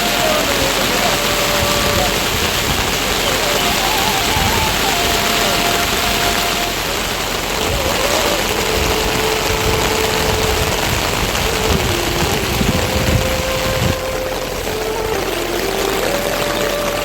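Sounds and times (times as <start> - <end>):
faint melody of held notes: 0.0 - 17.0
heavy rain: 0.0 - 17.0.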